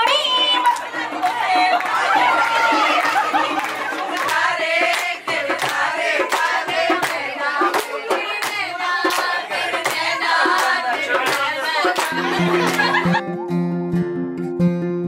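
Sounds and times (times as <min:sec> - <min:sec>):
rhythmic hand-clapping: 0:00.0 - 0:13.2
group singing: 0:00.3 - 0:13.2.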